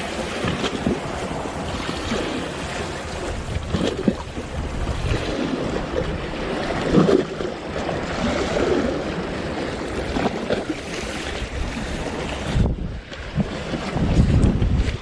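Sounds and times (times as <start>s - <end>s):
waves washing against shore: 0.0s - 15.0s
wind buffeting microphone: 0.0s - 15.0s.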